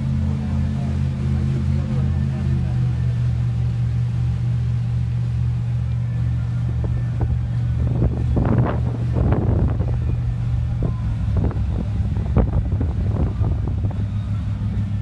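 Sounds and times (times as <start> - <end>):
low engine rumble: 0.0 - 15.0
wind buffeting microphone: 0.0 - 15.0.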